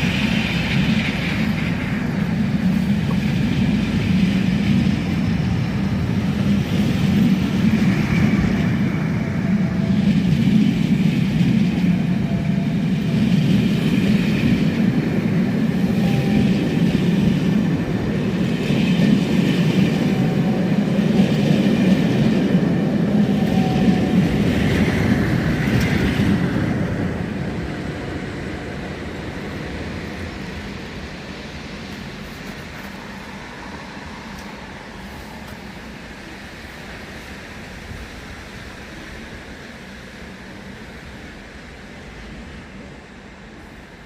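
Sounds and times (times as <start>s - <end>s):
diesel train rumbling on track: 0.0s - 44.0s.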